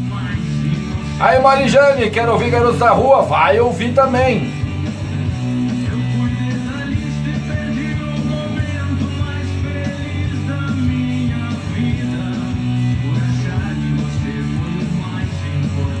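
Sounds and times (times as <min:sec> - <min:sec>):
rock song with guitars: 0:00.0 - 0:16.0.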